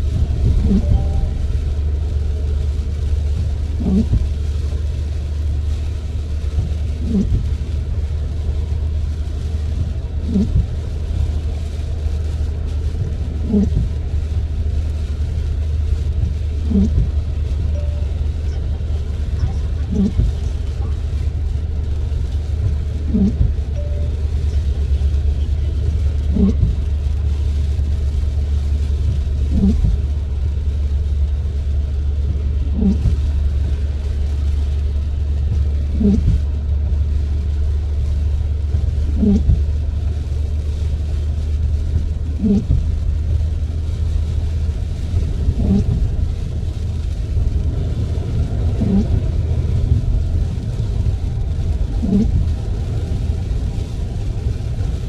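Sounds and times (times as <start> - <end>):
windscreen wipers rubbing glass: 0.0 - 30.4, 31.0 - 55.0
car driving on wet road: 0.0 - 55.0.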